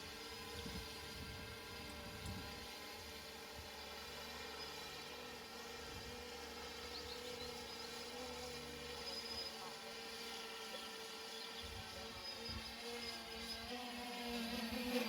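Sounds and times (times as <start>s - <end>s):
drone rotors buzzing: 0.0s - 15.0s.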